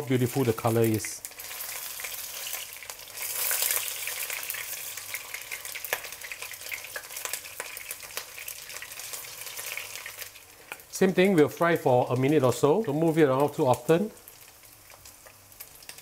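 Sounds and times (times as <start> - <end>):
meatballs sizzling in hot oil: 0.0 - 16.0.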